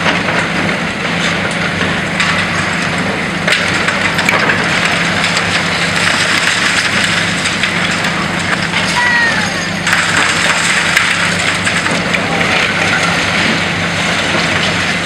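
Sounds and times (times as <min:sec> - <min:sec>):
concrete crunching and falling: 0:00.0 - 0:15.0
diesel engine running: 0:00.0 - 0:15.0.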